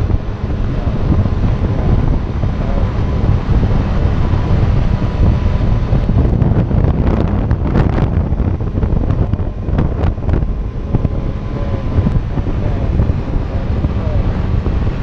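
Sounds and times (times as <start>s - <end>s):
motorcycle engine: 0.0s - 15.0s
wind buffeting microphone: 0.0s - 15.0s.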